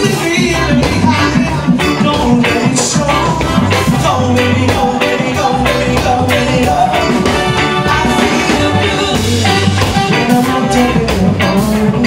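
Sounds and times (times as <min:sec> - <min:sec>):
live reggae band playing: 0:00.0 - 0:12.0.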